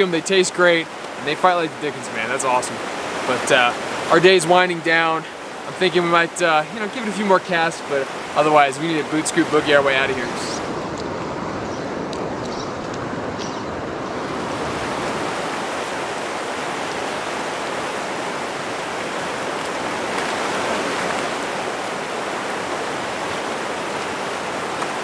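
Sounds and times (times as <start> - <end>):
river rushing over rocks: 0.0 - 10.9, 14.0 - 25.0.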